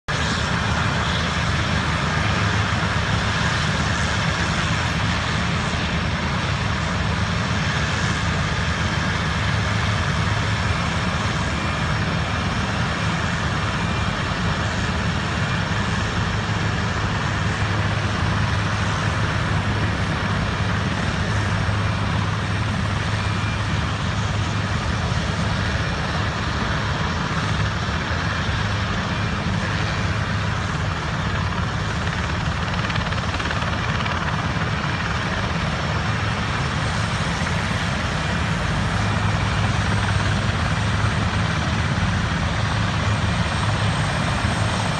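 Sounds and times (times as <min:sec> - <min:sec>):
helicopter turbines and rotors running: 0:00.1 - 0:44.9.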